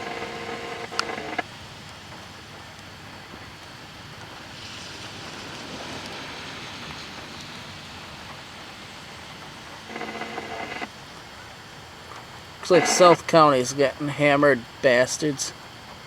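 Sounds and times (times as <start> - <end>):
rain falling steadily: 1.4 - 9.9, 10.8 - 16.0.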